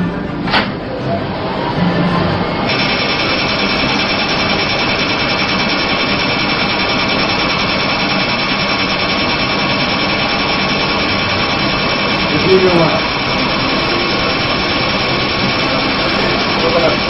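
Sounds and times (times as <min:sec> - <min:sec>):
surgical equipment mechanical buzz: 0:02.7 - 0:17.0.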